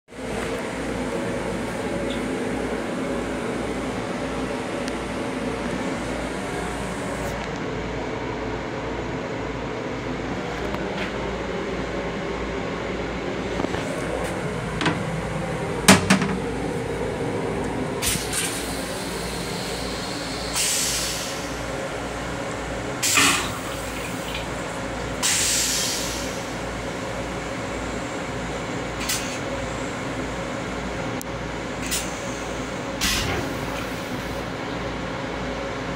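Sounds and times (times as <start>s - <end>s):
rail car humming: 0.1s - 35.9s.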